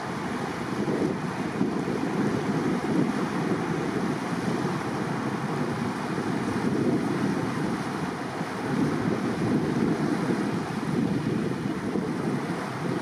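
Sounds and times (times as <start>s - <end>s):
water wash from moving boat: 0.0s - 13.0s
wind buffeting microphone: 0.0s - 13.0s.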